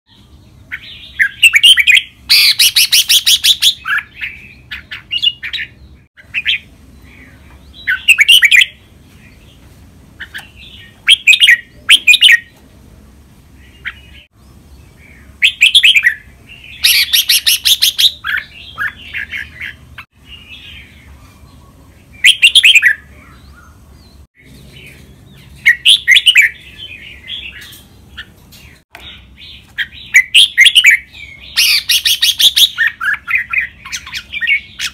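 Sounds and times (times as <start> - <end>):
bird singing song phrases: 0.1 - 12.6, 13.5 - 34.9.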